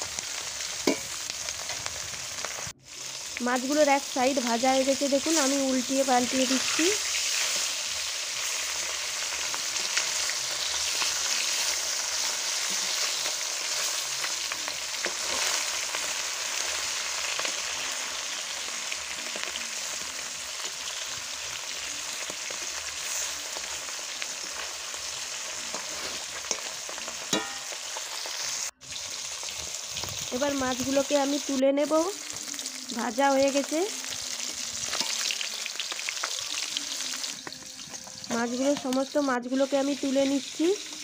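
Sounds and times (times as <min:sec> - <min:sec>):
fish sizzling in hot oil: 0:00.0 - 0:41.0.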